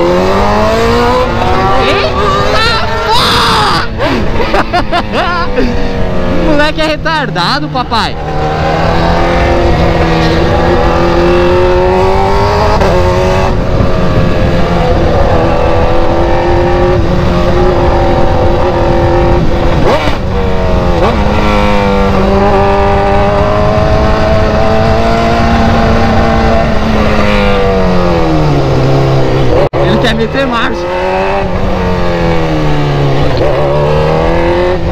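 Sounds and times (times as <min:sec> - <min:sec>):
car engine revving loud exhaust: 0:00.0 - 0:03.1, 0:05.6 - 0:34.9.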